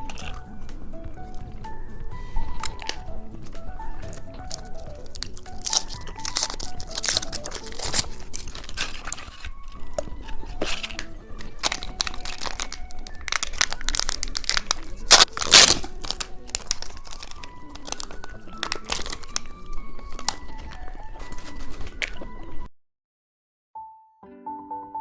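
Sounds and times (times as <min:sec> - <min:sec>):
candy wrapper crinkling: 0:00.0 - 0:22.3
soft background music: 0:00.0 - 0:22.7, 0:24.2 - 0:25.0.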